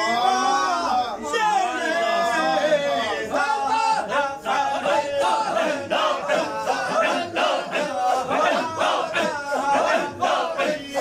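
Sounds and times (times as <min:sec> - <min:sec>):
men chanting together: 0:00.4 - 0:11.0.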